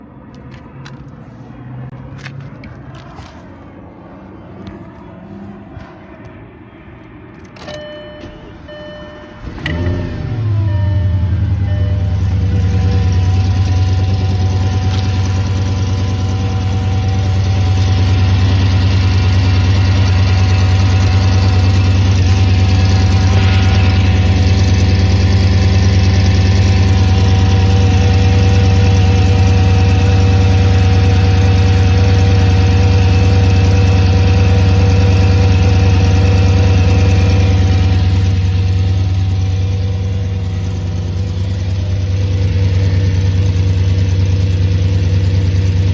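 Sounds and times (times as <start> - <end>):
car engine idling: 7.4 - 45.9.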